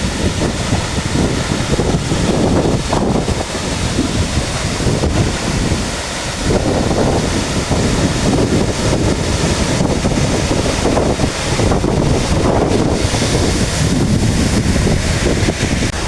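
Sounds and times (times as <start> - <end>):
large waterfall rushing: 0.0 - 16.0
wind buffeting microphone: 0.0 - 16.0.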